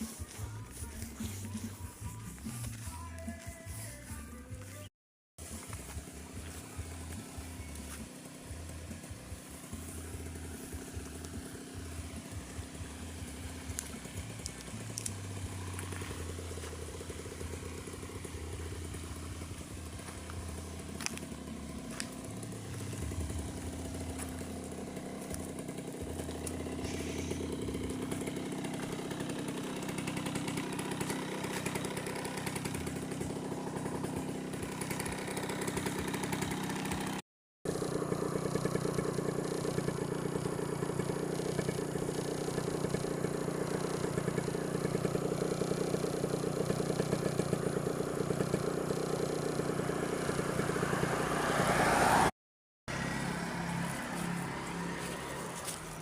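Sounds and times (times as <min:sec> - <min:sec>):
engine running steadily: 0:00.0 - 0:52.3, 0:52.9 - 0:56.0.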